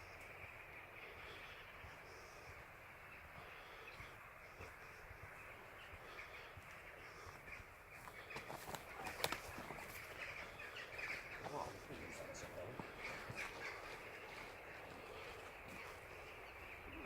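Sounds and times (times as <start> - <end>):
distant birds calling: 0.0 - 17.0.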